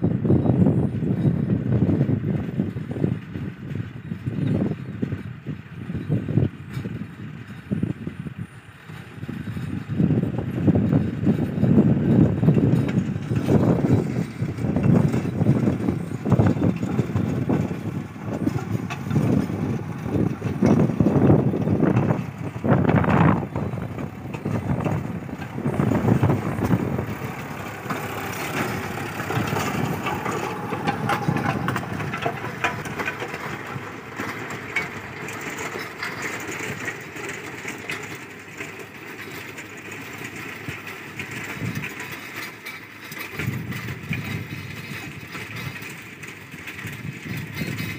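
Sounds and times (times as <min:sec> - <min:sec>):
tractor engine under load: 0:00.0 - 0:47.9
rotavator blades churning soil: 0:08.9 - 0:47.9.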